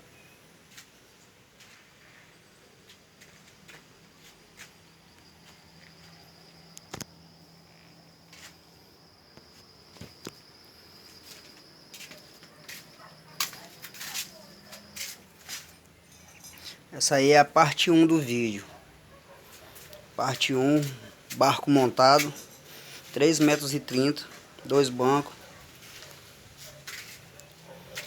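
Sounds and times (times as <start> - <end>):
high-pitched insect trill: 3.2 - 18.8, 19.4 - 28.0.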